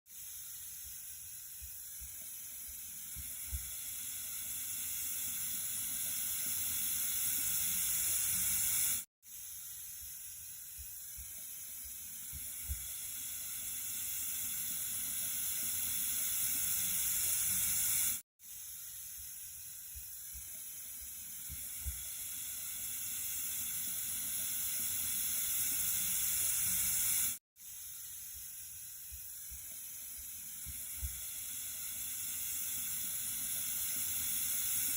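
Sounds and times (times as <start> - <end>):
water running hiss: 0.1 - 34.9.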